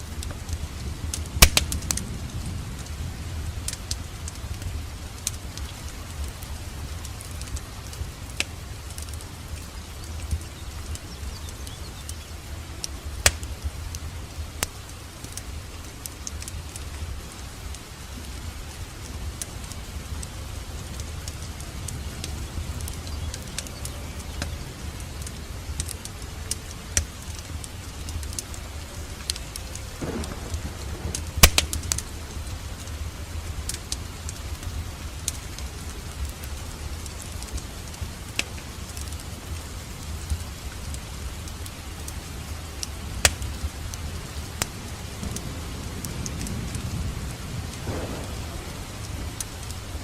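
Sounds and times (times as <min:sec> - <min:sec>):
fire popping: 0:00.0 - 0:50.0
wood fire crackling: 0:00.0 - 0:50.0.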